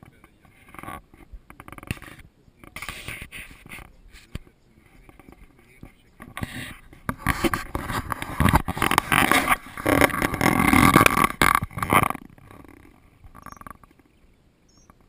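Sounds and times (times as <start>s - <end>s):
camera handling rubbing and bumping: 0.0s - 14.0s.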